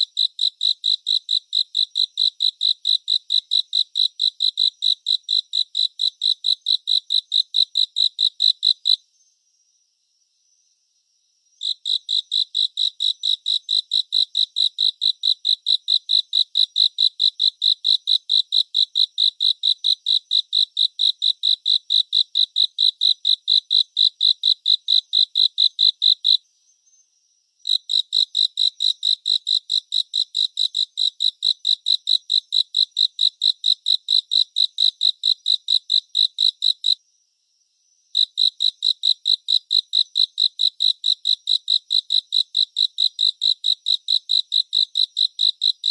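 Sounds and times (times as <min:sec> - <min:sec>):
cricket chirping: 0:00.0 - 0:45.9
faint cricket trill: 0:00.0 - 0:45.9.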